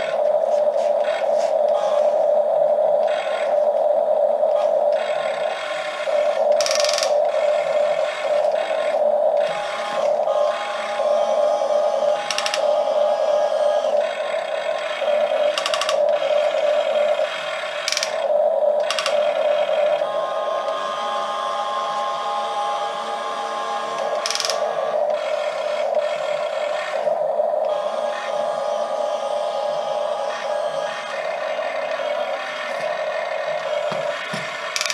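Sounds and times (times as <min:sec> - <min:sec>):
electric motors and gears whirring: 0:00.0 - 0:34.9.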